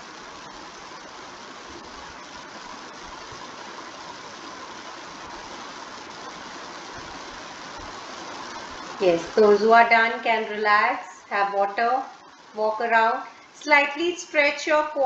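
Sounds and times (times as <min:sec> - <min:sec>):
room noise hiss: 0:00.0 - 0:15.0.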